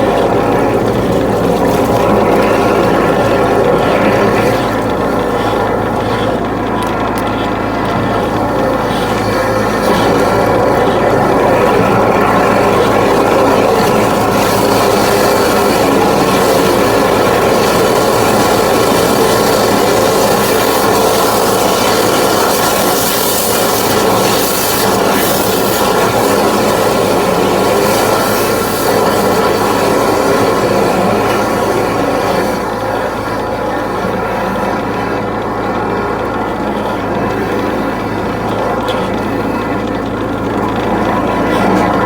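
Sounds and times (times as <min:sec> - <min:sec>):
drain jetter engine and pump droning: 0:00.0 - 0:42.0
water jetting through pipe: 0:00.0 - 0:42.0.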